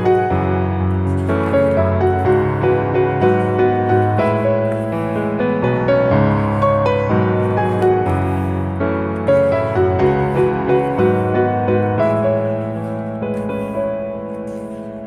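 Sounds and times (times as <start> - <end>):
piano melody over bass: 0.0 - 15.0.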